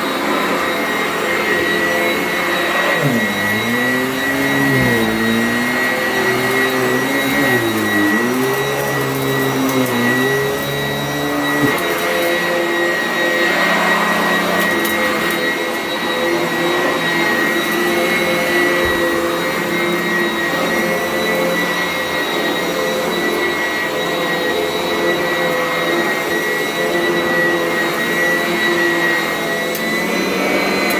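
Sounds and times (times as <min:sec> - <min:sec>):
upright vacuum cleaner running: 0:00.0 - 0:30.9.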